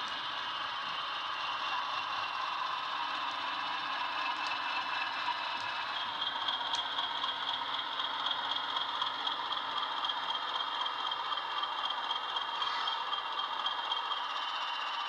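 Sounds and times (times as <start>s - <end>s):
model diesel engine sound: 0.0s - 15.0s.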